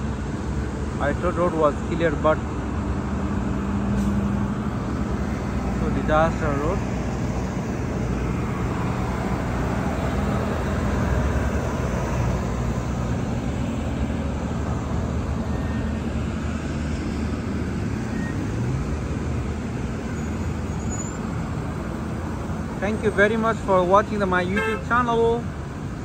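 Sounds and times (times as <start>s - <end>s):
traffic driving through floodwater: 0.0s - 26.0s.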